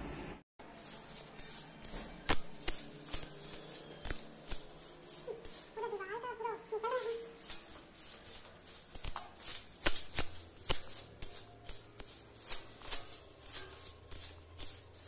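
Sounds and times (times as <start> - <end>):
broom sweeping tiled steps: 0.6 - 15.0.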